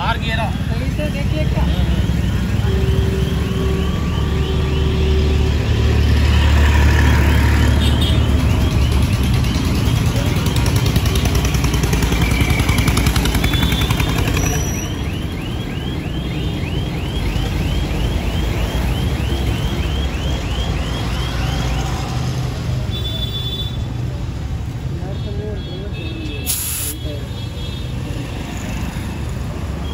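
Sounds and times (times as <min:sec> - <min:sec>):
vehicle engine and road rumble: 0:00.0 - 0:29.9.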